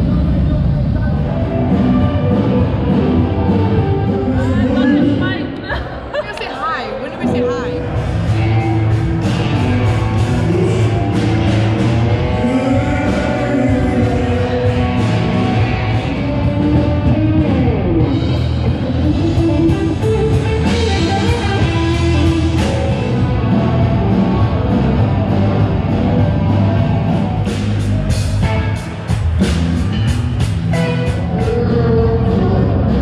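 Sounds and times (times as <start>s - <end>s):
drum kit: 0.0s - 5.1s, 7.4s - 33.0s
electric guitar: 0.0s - 6.0s, 7.2s - 33.0s
bass guitar: 0.0s - 6.2s, 7.2s - 33.0s.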